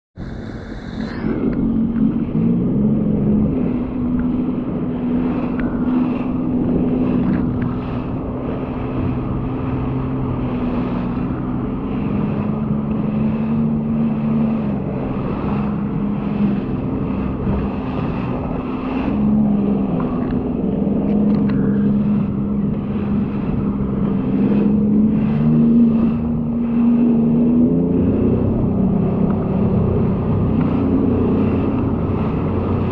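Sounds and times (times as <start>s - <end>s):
personal watercraft engine running: 0.2s - 32.9s
rushing water: 0.2s - 32.9s
wind: 0.2s - 32.9s.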